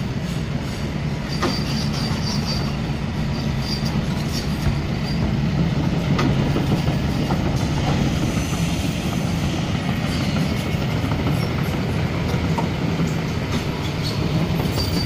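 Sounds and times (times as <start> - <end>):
track links clanking and squeaking: 0.2 - 8.1, 9.8 - 15.0.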